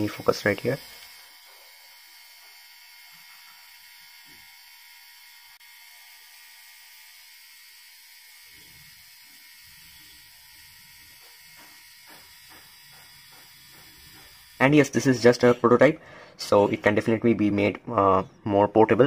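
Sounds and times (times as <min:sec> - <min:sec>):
small water pump whirring: 0:00.0 - 0:16.6.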